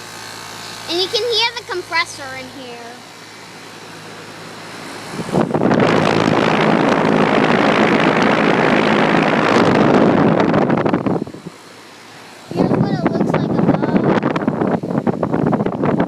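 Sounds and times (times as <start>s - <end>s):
air rushing from vent: 0.0s - 16.0s
compressor humming: 0.0s - 16.0s.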